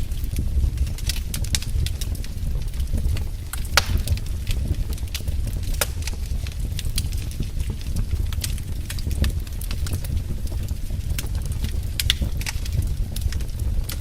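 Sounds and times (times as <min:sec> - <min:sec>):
fire crackling and popping: 0:00.0 - 0:14.0
low rumble of fire: 0:00.0 - 0:14.0.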